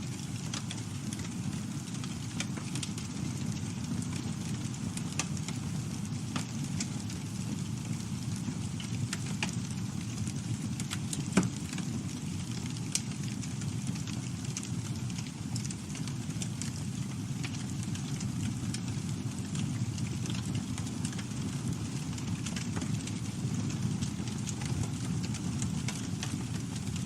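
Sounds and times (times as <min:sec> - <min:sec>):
campfire burning: 0:00.0 - 0:27.0.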